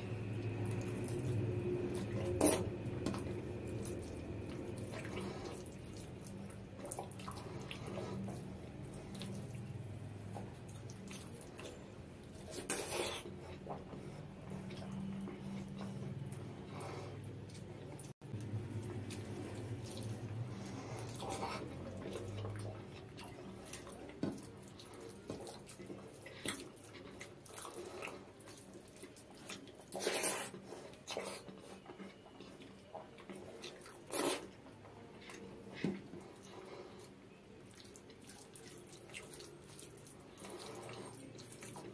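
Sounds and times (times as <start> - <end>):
chewing: 0.3 - 41.9.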